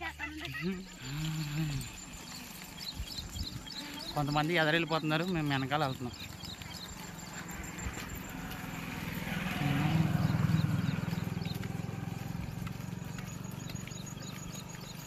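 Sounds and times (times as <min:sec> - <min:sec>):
motorcycle passing: 0:00.4 - 0:15.0.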